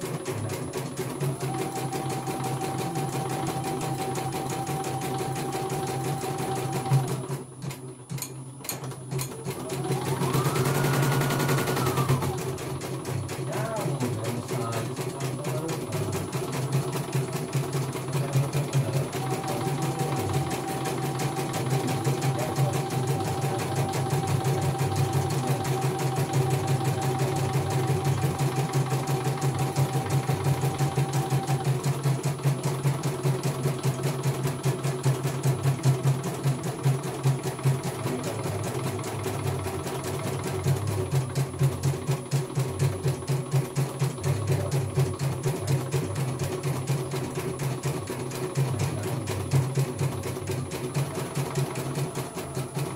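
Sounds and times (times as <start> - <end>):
embroidery machine stitching: 0.0 - 52.9.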